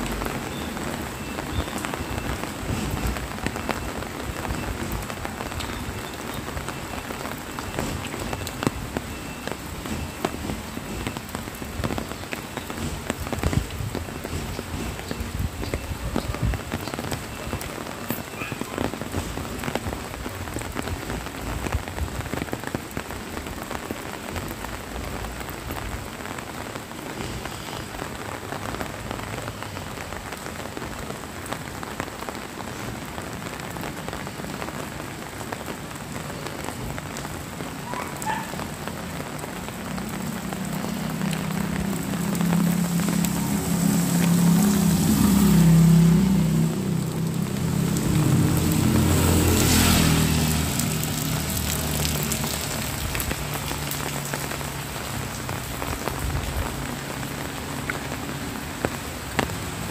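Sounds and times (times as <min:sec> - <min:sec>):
light rain on wet pavement: 0:00.0 - 0:59.9.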